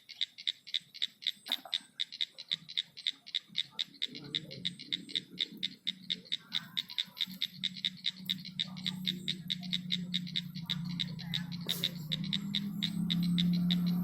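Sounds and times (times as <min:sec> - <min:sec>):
night animal clicking call: 0:00.0 - 0:14.0
steady low hum: 0:00.0 - 0:14.0.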